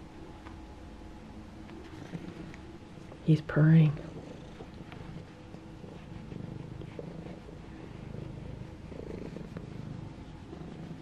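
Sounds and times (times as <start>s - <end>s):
cat purring: 1.6s - 11.0s.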